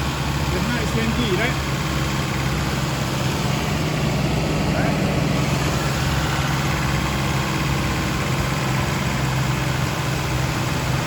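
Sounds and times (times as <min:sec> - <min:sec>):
air conditioning compressor: 0:00.0 - 0:11.0
car engine running: 0:00.0 - 0:11.0.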